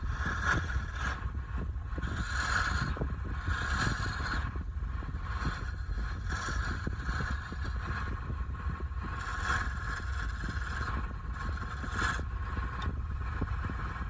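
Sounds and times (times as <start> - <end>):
turning tool scraping wood: 0.0 - 13.8
wood lathe rumbling: 0.0 - 13.8.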